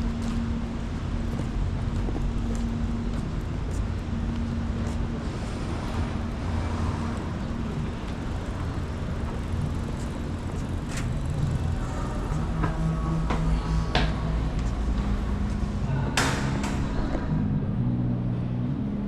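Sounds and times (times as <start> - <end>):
cars going by: 0.0 - 19.0.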